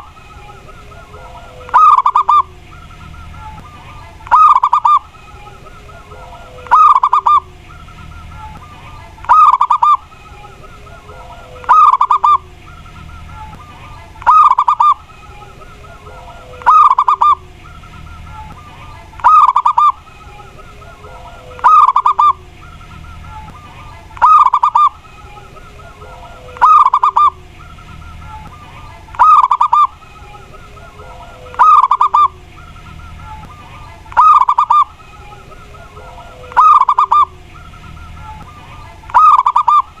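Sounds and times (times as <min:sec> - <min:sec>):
dove cooing: 0:00.0 - 0:40.0.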